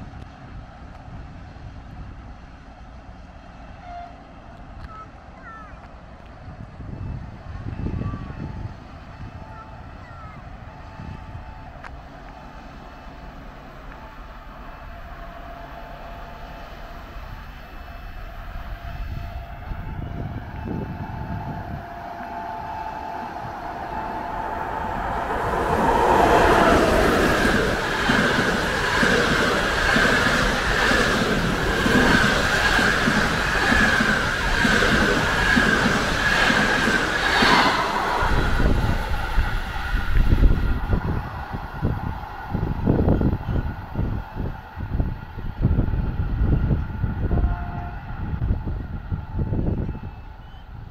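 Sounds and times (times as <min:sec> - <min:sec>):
electric locomotive whine: 0:00.0 - 0:50.9.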